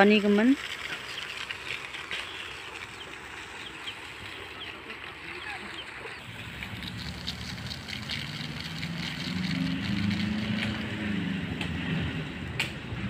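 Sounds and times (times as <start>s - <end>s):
fan blowing: 0.0s - 13.0s
low motor hum: 0.0s - 13.0s
rice grains pattering on tarp: 0.1s - 11.2s.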